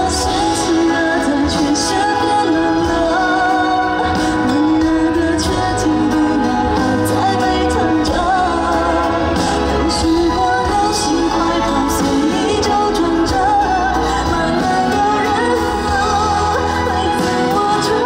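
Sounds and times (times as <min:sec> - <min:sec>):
pop song with singer and band: 0:00.0 - 0:18.0.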